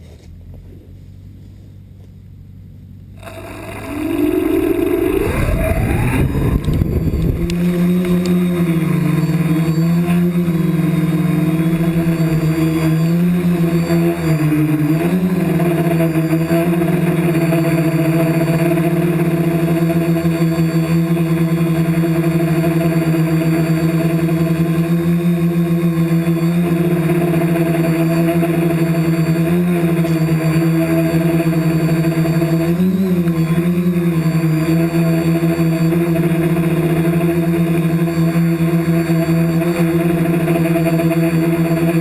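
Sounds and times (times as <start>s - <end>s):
model helicopter rotor whine: 3.1s - 42.0s.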